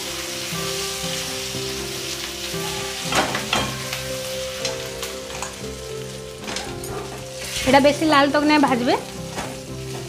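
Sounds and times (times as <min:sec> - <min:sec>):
garlic and ginger sizzling in oil: 0:00.0 - 0:10.0.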